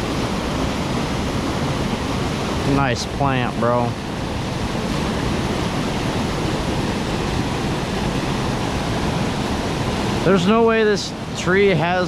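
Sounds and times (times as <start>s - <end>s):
floodwater roaring over spillway: 0.0s - 12.0s.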